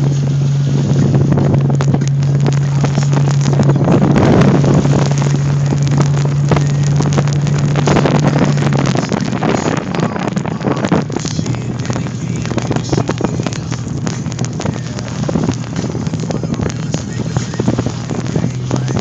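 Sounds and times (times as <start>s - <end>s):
car engine drone inside cabin: 0.0s - 19.0s
crackles and knocks: 0.0s - 19.0s.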